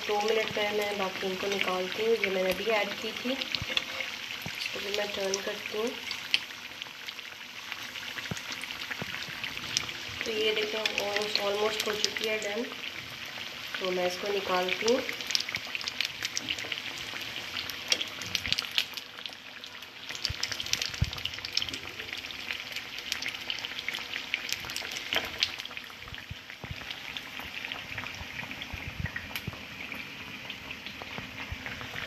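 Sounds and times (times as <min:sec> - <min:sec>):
potato cutlets deep-frying in oil: 0:00.0 - 0:32.0.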